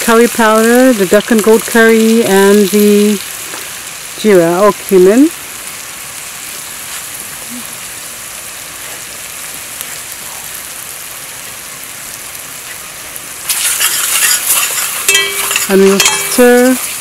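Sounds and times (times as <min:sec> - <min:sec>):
hot oil sizzling in a pot: 0:00.0 - 0:17.0.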